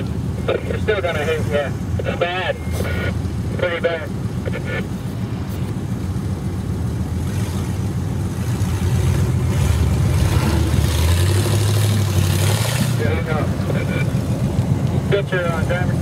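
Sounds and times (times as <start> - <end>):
truck engine running under load: 0.0 - 16.0.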